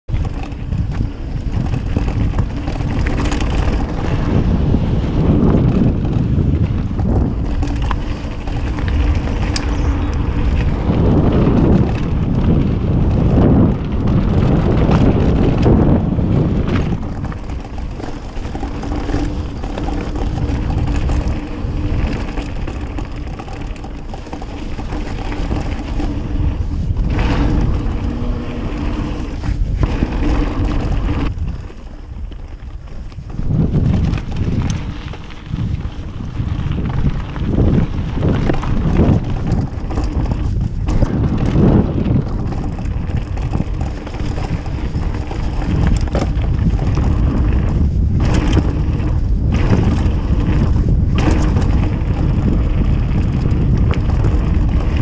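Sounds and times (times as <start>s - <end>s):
wind buffeting microphone: 0.0s - 55.0s
tyres rumbling on dirt: 0.1s - 55.0s.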